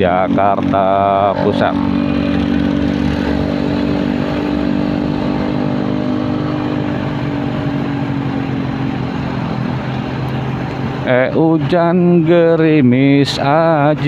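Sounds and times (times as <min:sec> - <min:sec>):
motorcycle engine cruising: 0:00.0 - 0:14.0
road and traffic noise: 0:00.0 - 0:14.0.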